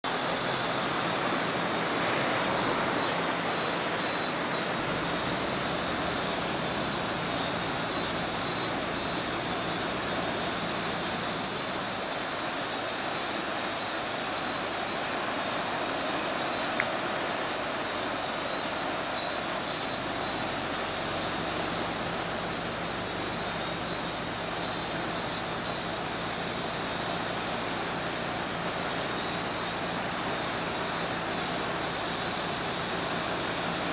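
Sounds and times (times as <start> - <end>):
river in flood rushing: 0.0 - 33.9.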